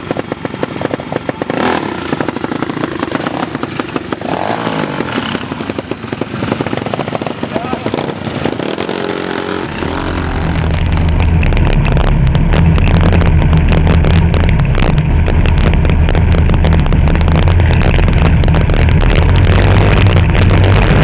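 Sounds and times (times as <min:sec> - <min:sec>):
kart engine running hard: 0:00.0 - 0:21.0.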